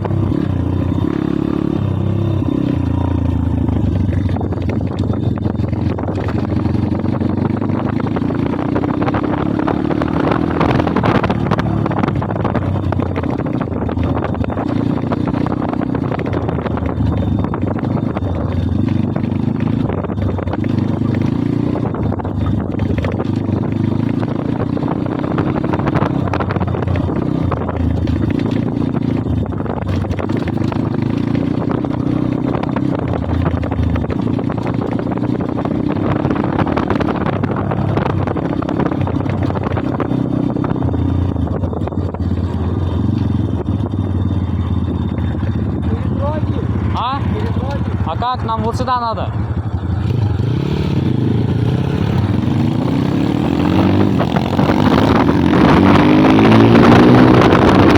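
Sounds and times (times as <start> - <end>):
motorbike engine revving: 0.0 - 57.9.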